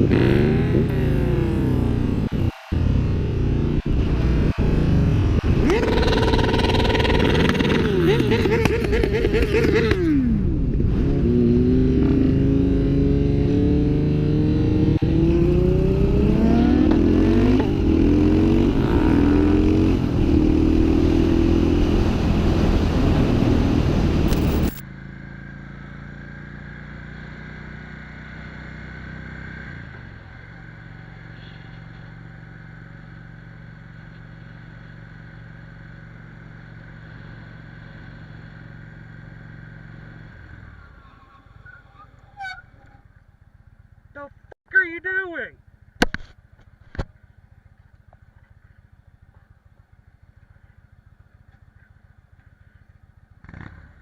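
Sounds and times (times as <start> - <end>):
motorcycle engines revving: 0.0 - 44.3, 47.2 - 54.0.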